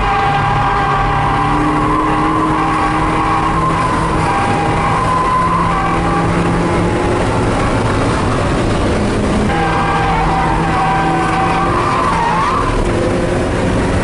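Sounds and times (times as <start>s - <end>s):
tyres squealing: 0.0s - 8.6s, 9.4s - 12.9s
car engine running loud: 0.0s - 14.0s.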